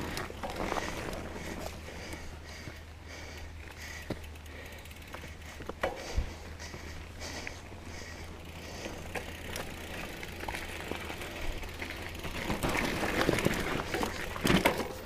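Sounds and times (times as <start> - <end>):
bike parts rattling and clicking: 0.0 - 15.0
bike tyres rolling on dirt: 0.0 - 15.0.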